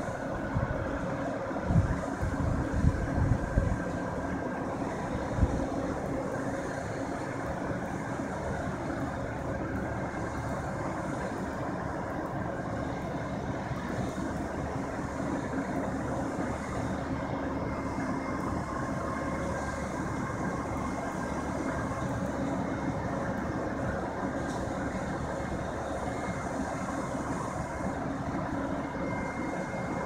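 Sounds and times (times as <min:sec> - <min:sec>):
heavy diesel engines running: 0:00.0 - 0:30.0.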